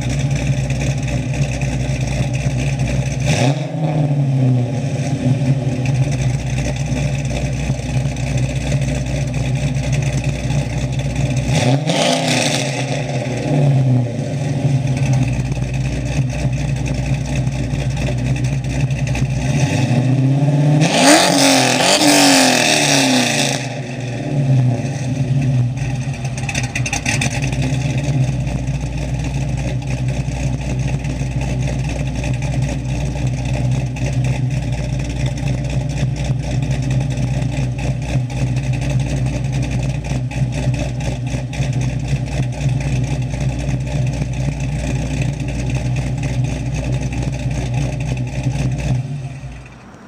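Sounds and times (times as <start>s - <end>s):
car engine idling: 0.0s - 20.8s, 21.5s - 50.0s.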